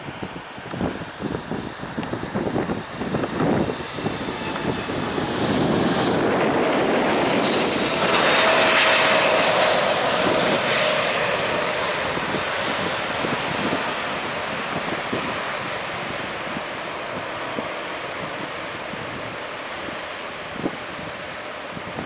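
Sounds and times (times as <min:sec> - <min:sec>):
jet airliner passing: 0:00.0 - 0:22.0
wind buffeting microphone: 0:00.0 - 0:22.0.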